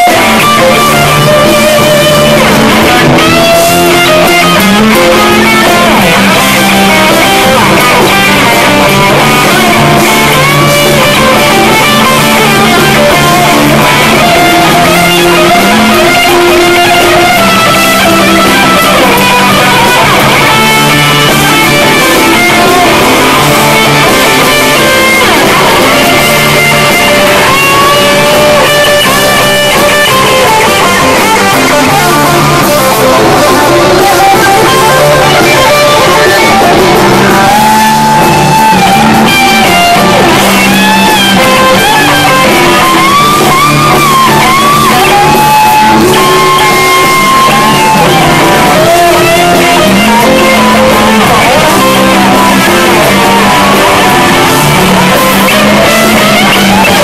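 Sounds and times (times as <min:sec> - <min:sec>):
bass guitar: 0:00.0 - 0:57.0
drums: 0:00.0 - 0:57.0
electric guitar solo: 0:00.0 - 0:57.0
rhythm guitar: 0:00.0 - 0:57.0.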